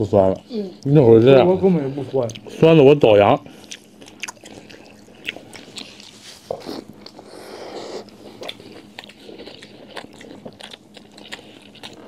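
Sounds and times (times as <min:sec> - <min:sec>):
people chewing: 0:00.0 - 0:12.0.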